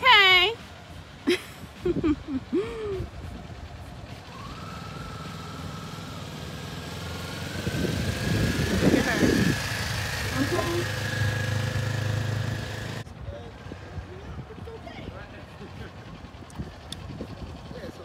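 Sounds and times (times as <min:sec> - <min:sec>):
motorcycle engine approaching: 0:00.0 - 0:18.0.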